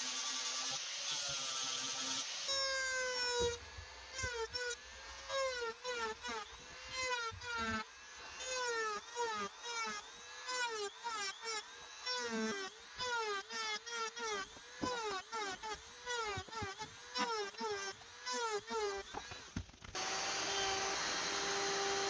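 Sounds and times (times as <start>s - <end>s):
rotary tool grinding plastic: 2.5s - 22.0s.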